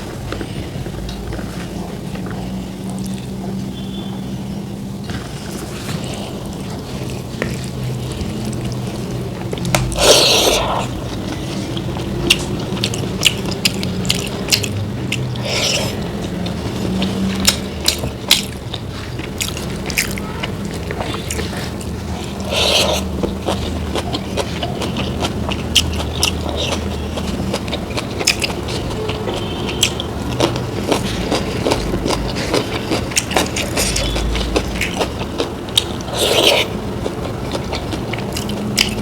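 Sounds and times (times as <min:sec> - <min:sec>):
crackly chewing and biting: 0:05.0 - 0:39.0.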